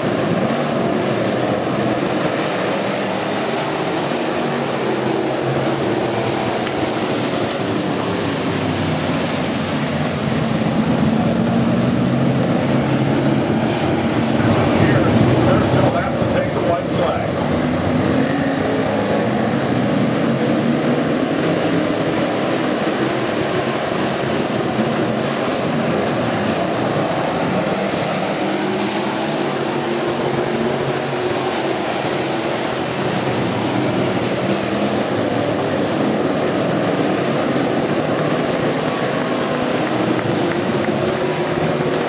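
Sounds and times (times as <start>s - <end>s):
racing car engines drone: 0.0s - 42.0s.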